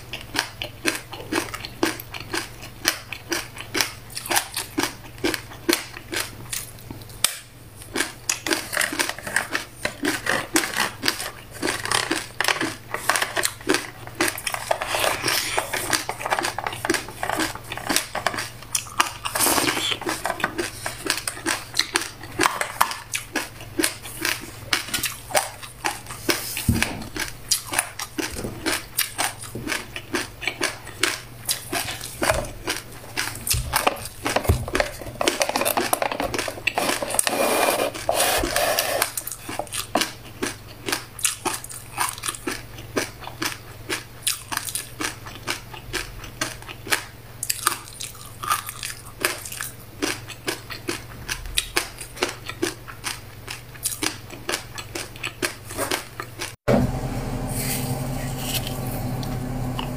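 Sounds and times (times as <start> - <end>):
crunchy chewing: 0.0 - 56.6.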